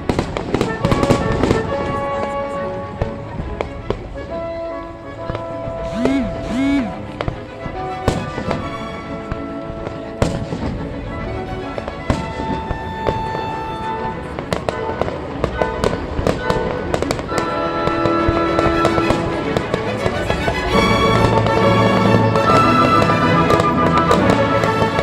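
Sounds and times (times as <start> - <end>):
fireworks banging and crackling: 0.0 - 4.2, 5.2 - 25.0
music with long held notes: 0.0 - 25.0.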